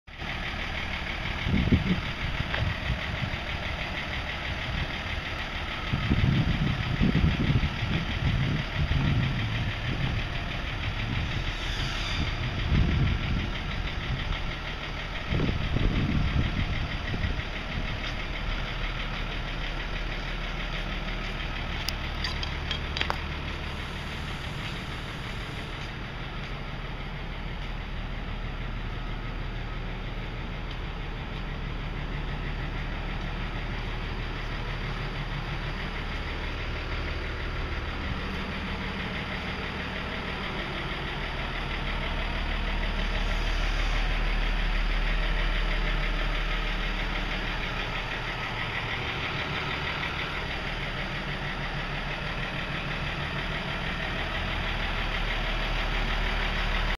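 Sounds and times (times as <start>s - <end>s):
low rumbles: 0.1s - 56.9s
truck engine idling: 0.1s - 56.9s.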